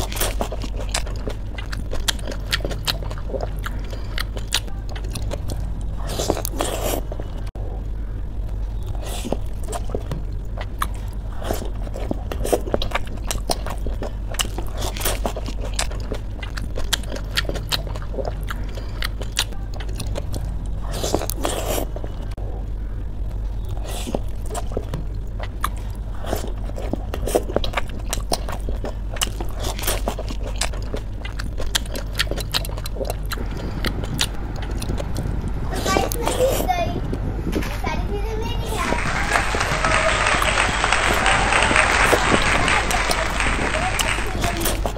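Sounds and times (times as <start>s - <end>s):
crunching and chewing: 0.0s - 37.8s, 38.7s - 44.9s
steady low hum: 0.0s - 44.9s.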